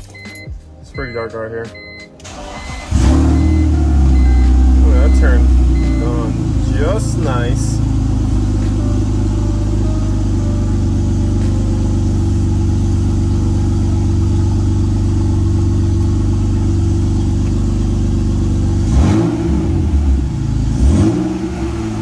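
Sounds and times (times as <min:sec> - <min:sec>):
car engine idling and revving: 0:01.8 - 0:22.0.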